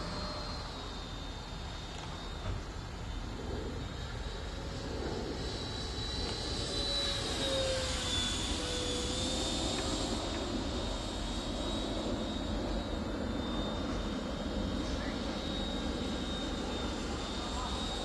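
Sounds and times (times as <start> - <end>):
model jet fan whining: 0.0 - 18.0.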